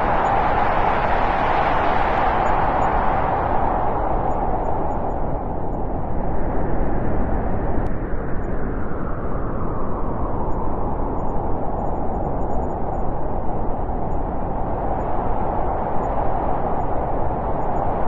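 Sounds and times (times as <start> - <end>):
steady wind rushing: 0.0 - 18.0.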